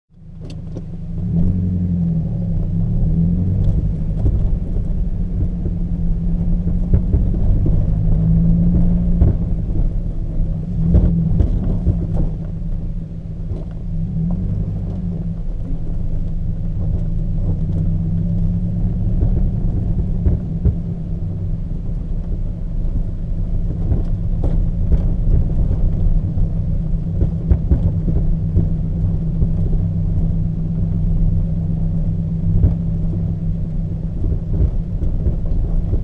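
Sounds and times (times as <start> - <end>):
car engine low rumble: 0.1 - 36.0
knocks and clunks from car: 3.6 - 36.0.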